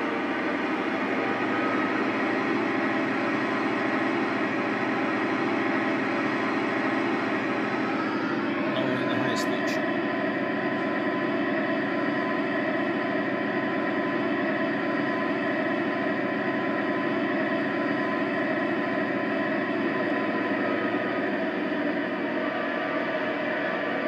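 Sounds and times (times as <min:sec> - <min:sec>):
diesel engine idling through loudspeaker: 0:00.0 - 0:24.0.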